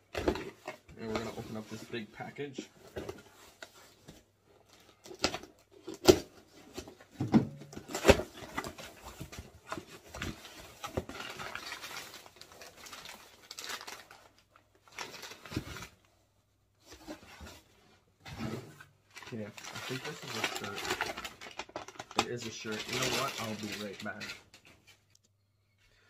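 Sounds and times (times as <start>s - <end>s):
paper packaging rustling: 0.0s - 16.1s, 18.3s - 25.1s.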